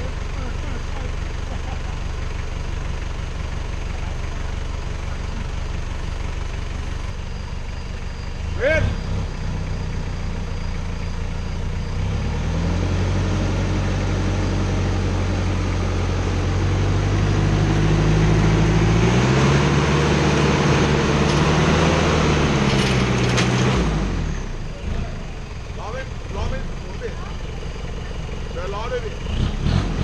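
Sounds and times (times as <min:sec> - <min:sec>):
truck engine pulling under load: 0:00.0 - 0:30.0.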